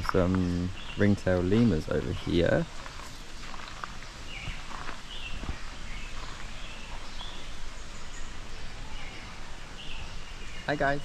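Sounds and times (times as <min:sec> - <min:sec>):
background hiss: 0:00.0 - 0:11.0
birds chirping: 0:00.0 - 0:11.0.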